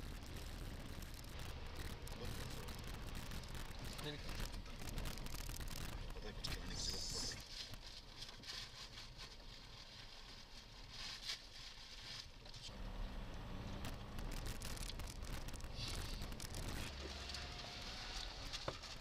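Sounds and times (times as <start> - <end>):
engine and tyre rumble: 0.0 - 19.0
gravel rattling under wheels: 0.0 - 19.0.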